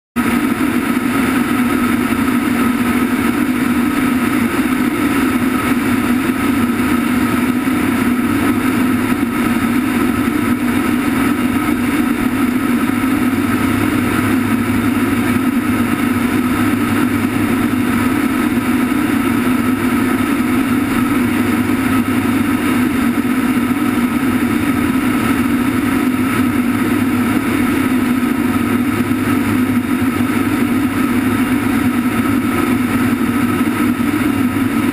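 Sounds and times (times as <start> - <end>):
aircraft engine drone: 0.2 - 34.9
thin steady whine: 0.2 - 34.9.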